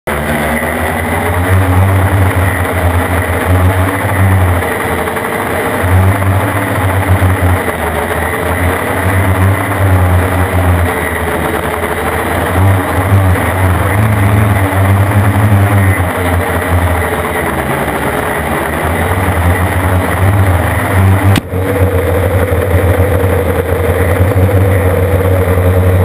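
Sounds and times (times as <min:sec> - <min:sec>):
low rumble: 0:00.1 - 0:26.0
quadcopter motors and propellers: 0:00.1 - 0:26.0.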